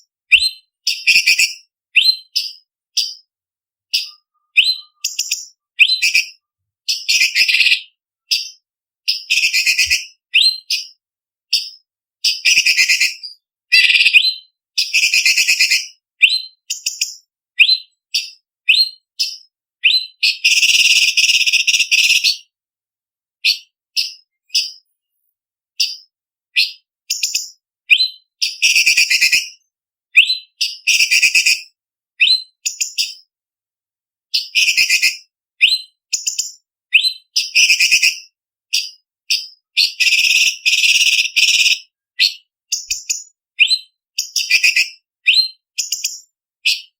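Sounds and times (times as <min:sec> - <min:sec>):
bird singing whistled notes: 0:00.3 - 0:03.3, 0:03.9 - 0:22.5, 0:23.4 - 0:24.9, 0:25.8 - 0:31.6, 0:32.2 - 0:33.3, 0:34.3 - 0:46.9.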